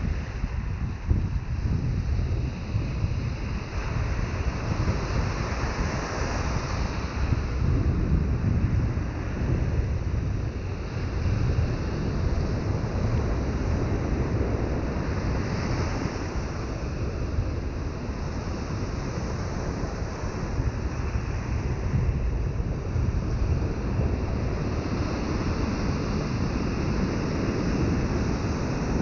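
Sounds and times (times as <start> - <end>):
ocean surf breaking on beach: 0.0 - 29.0
wind buffeting microphone: 0.0 - 29.0.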